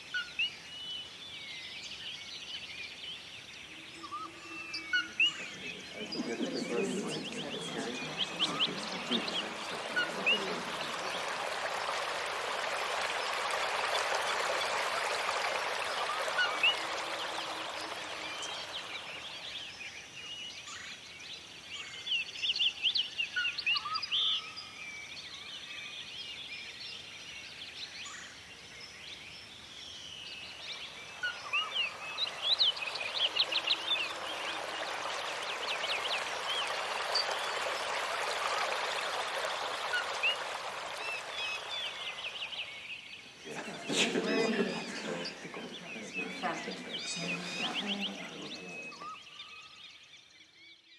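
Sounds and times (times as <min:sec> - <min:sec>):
small birds chirping: 0:00.0 - 0:24.3, 0:26.4 - 0:50.9.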